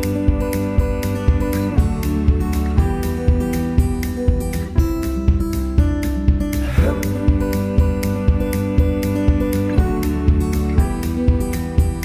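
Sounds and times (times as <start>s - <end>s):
gentle acoustic guitar music: 0.0s - 12.0s.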